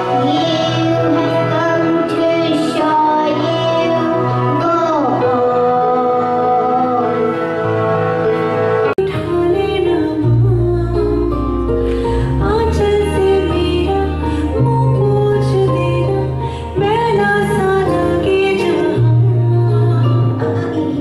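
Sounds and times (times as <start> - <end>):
girl singing into a microphone: 0.0 - 7.4, 9.0 - 21.0
musical backing track: 0.0 - 21.0.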